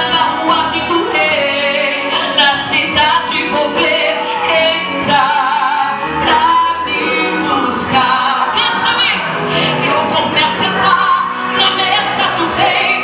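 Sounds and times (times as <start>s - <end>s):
woman singing into microphone: 0.0s - 13.0s.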